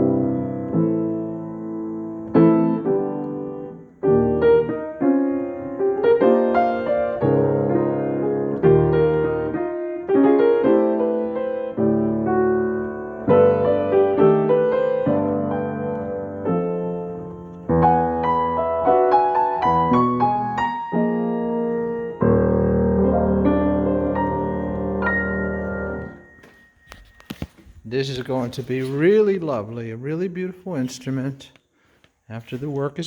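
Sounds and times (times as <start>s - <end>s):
grand piano chords and melody: 0.0s - 30.9s.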